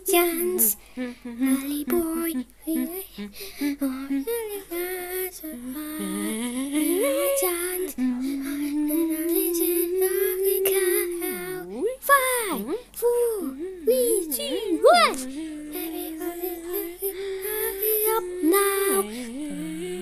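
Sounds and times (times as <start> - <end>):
child singing unaccompanied: 0.0 - 20.0.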